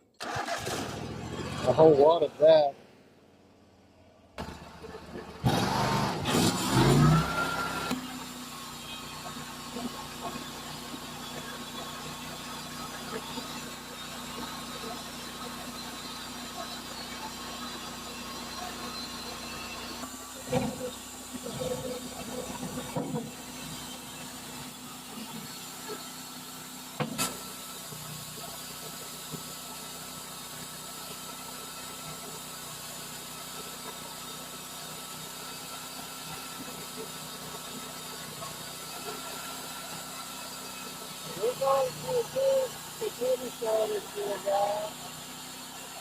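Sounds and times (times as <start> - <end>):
machine running with hiss: 7.6 - 46.0.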